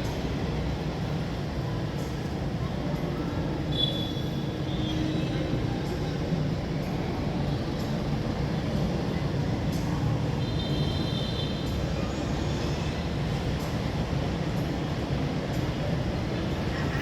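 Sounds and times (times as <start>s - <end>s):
outdoor crowd noise: 0.0s - 17.0s
traffic noise: 0.0s - 17.0s.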